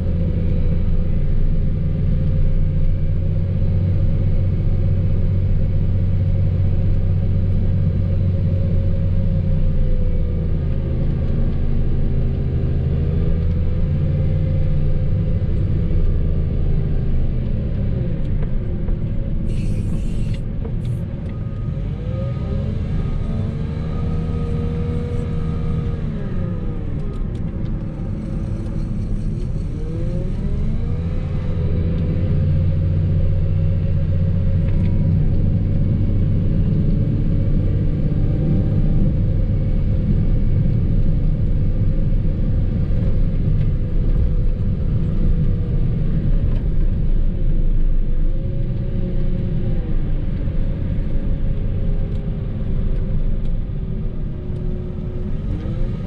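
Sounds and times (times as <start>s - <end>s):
vehicle engine under load: 0.0s - 56.0s.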